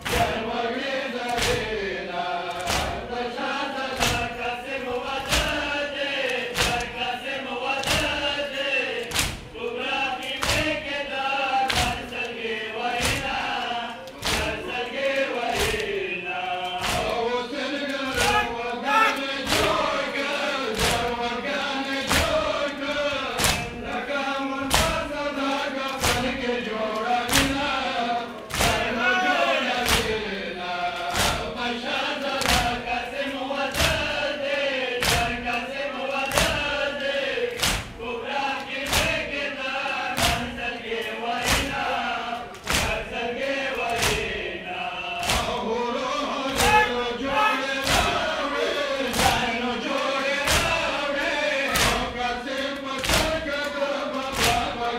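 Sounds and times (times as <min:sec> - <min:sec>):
crowd beating chests in unison: 0:00.0 - 0:54.9
men chanting a lament: 0:00.0 - 0:54.9.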